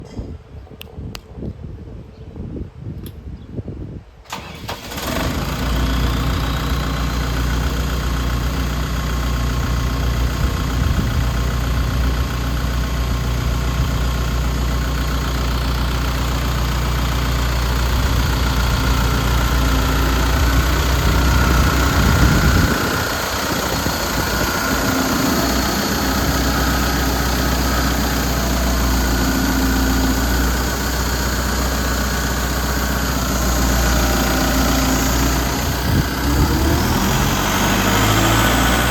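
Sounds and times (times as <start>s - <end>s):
diesel engine running: 4.3s - 38.9s.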